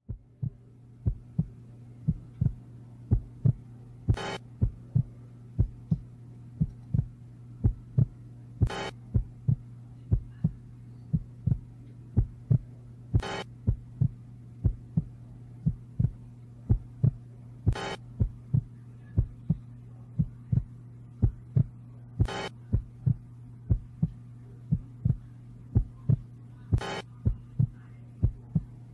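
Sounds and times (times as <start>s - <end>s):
heartbeat double thumps: 0.1s - 19.6s, 20.2s - 28.8s
steady low hum: 0.1s - 28.9s.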